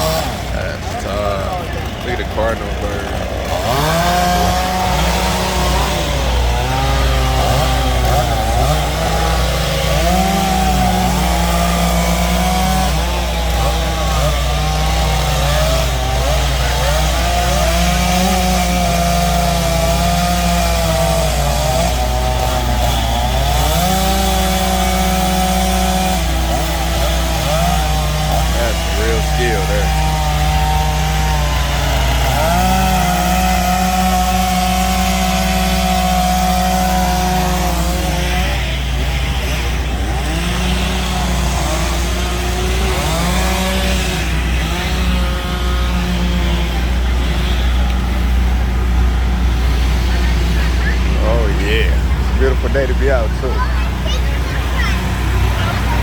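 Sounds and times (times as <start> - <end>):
chainsaw carving wood: 0.0 - 56.0.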